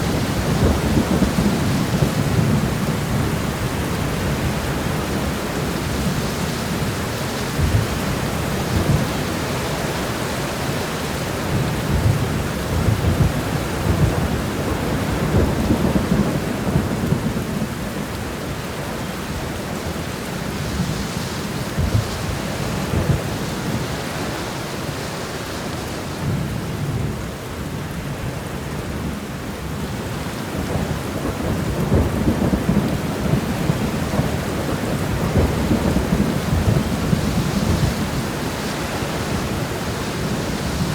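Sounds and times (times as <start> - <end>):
low rumble of thunder: 0.0 - 24.4, 26.2 - 40.9
steady rain: 0.0 - 40.9.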